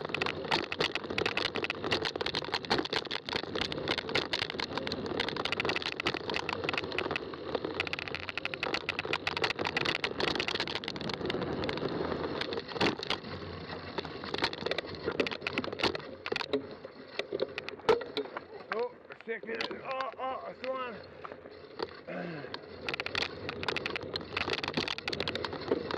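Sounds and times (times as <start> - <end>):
bike clicks and rattles: 0.0 - 25.9
bike tyres on rough trail: 0.0 - 25.9.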